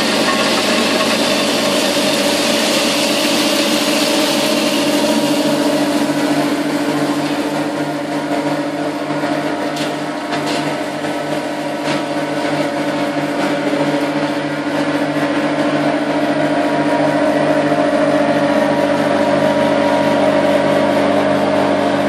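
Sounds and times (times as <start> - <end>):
grinding machine motor hum: 0.0 - 22.0.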